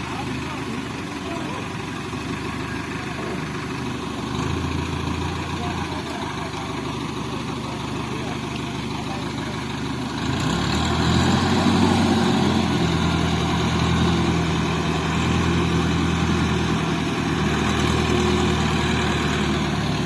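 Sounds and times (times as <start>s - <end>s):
crane diesel engine running: 0.0s - 20.0s.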